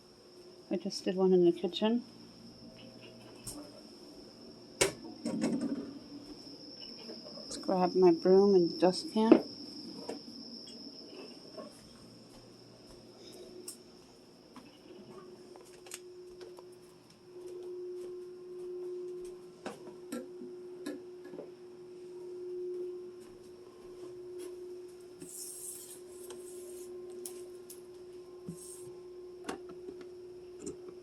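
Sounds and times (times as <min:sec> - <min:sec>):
faint high whine: 0:00.0 - 0:31.0.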